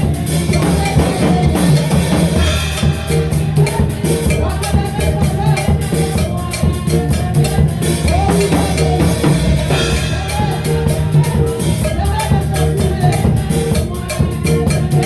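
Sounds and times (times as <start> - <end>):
drum kit beat: 0.0 - 15.0
gospel band music: 0.0 - 15.0.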